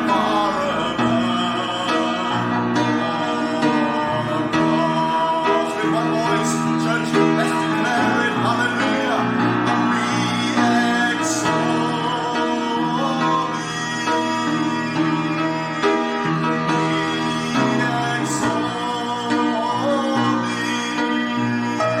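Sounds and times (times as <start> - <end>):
person singing: 0.0 - 22.0
worship band music: 0.0 - 22.0.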